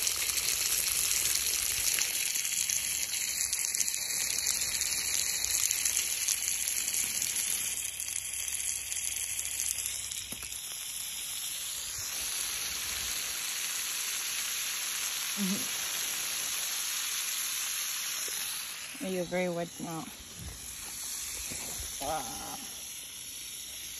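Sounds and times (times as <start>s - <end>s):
water spraying onto grass: 0.0s - 23.9s.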